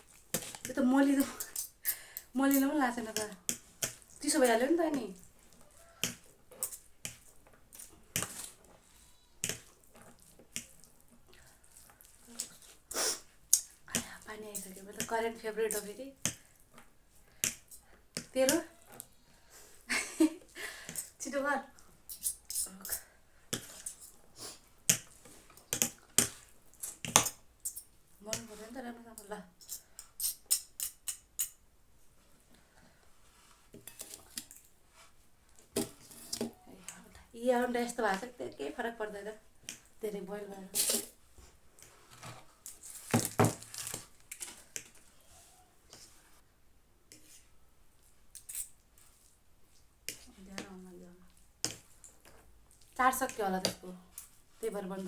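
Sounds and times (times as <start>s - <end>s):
noodles mixing clicks and scrapes: 0.0s - 31.6s, 32.2s - 46.5s, 47.1s - 55.0s.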